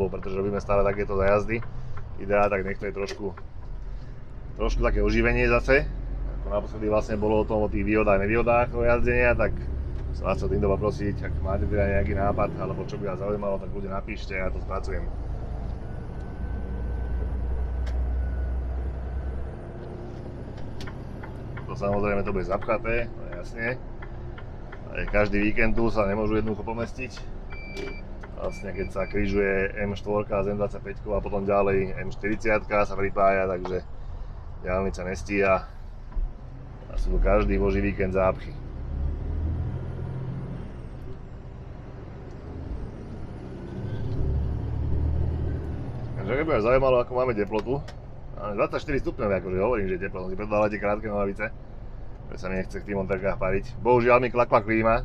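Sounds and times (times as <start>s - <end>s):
lorry engine and road rumble: 0.0s - 55.0s.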